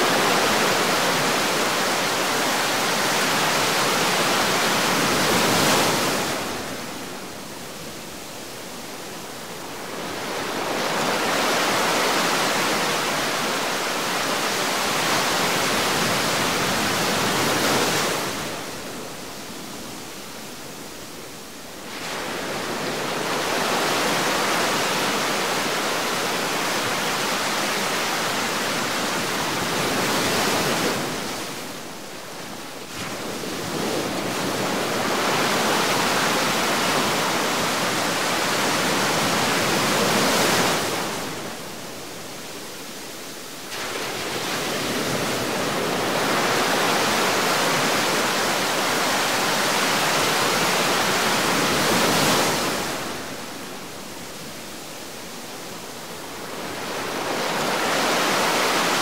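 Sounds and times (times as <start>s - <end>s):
heavy ocean waves rushing: 0.0s - 59.0s.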